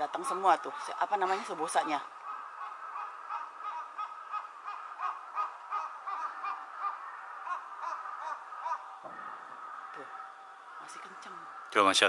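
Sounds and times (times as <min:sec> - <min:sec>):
crows cawing: 0:00.0 - 0:12.0.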